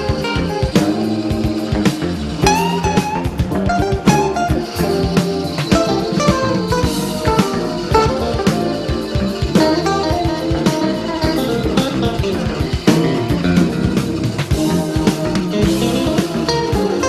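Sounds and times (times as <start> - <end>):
guitar-led background music: 0.0 - 17.0.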